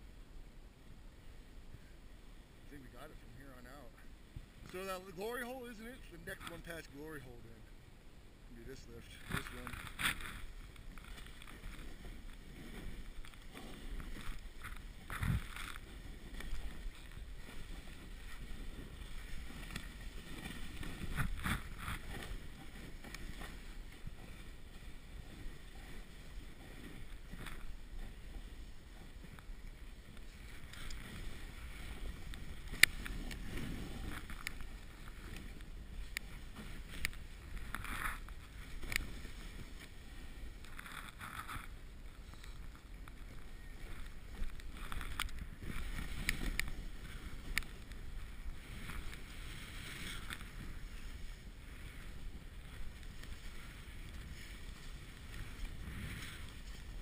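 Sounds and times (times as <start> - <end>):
snowboard scraping on snow: 8.8 - 57.0.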